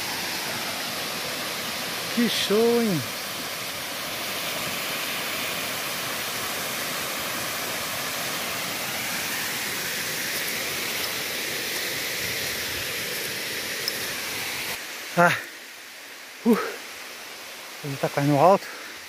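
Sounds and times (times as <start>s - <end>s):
waterfall rushing over rocks: 0.0s - 19.0s.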